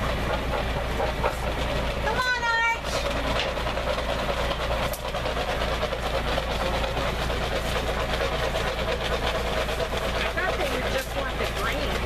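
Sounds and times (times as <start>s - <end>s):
engine running with rattle: 0.0s - 12.0s.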